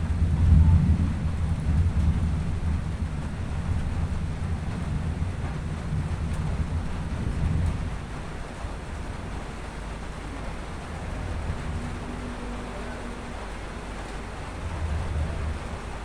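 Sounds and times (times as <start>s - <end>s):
steady rushing noise: 0.0s - 16.0s
thunder rumbling: 0.0s - 16.0s.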